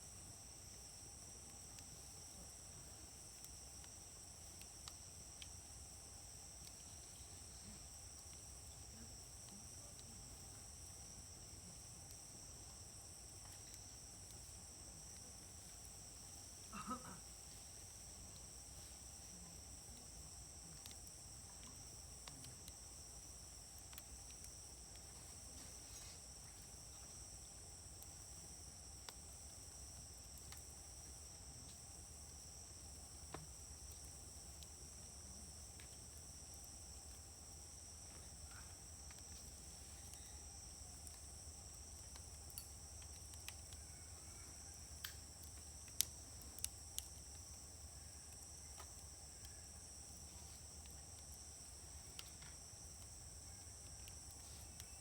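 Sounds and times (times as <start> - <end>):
wood fire crackling faintly: 0.0 - 55.0.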